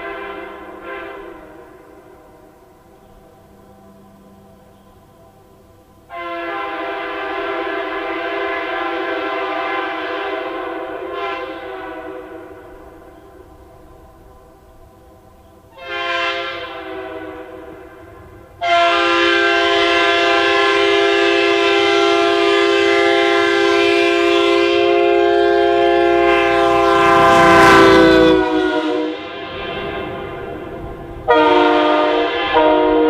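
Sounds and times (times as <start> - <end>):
locomotive air horn blasts: 0.0 - 2.5, 6.1 - 13.1, 15.7 - 33.0
rush of passing train: 0.0 - 33.0.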